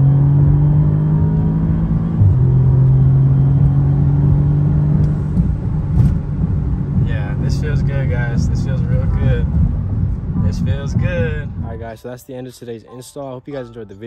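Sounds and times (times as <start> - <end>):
car engine accelerating hard: 0.0 - 11.8.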